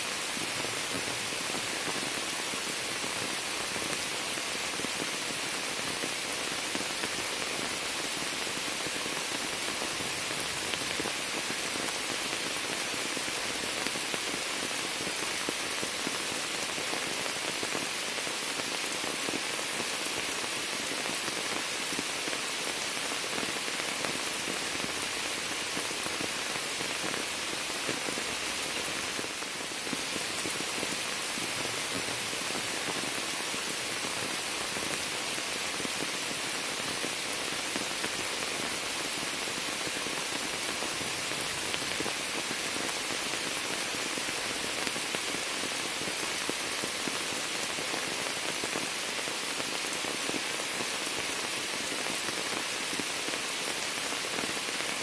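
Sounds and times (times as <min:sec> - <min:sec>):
rain on water and leaves: 0:00.0 - 0:55.0.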